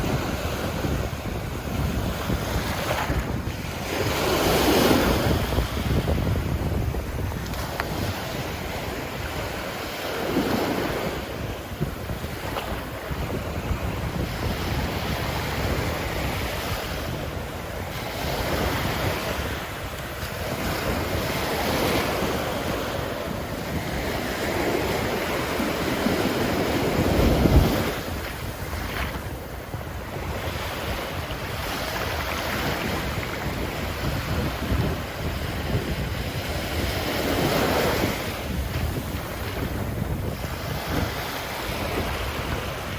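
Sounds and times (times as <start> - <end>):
ocean surf breaking on beach: 0.0 - 42.9.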